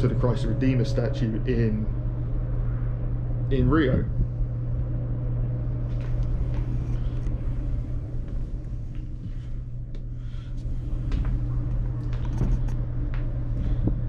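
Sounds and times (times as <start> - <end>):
low rumble: 0.0 - 14.0
ship machinery hum: 0.0 - 14.0.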